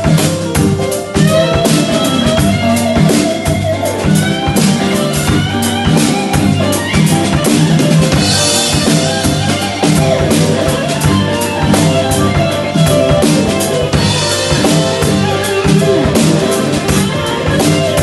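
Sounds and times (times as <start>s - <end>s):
backing music with bass: 0.0s - 18.0s
drum kit playing: 0.0s - 18.0s.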